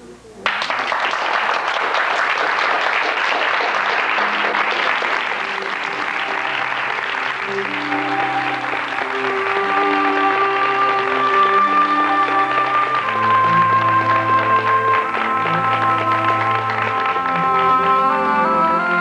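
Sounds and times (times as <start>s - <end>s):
music: 0.0s - 19.0s
audience applauding: 0.4s - 19.0s.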